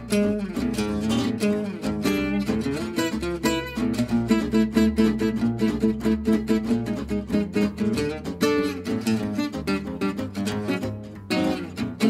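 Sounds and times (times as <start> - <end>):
acoustic guitar jazz: 0.0 - 12.0.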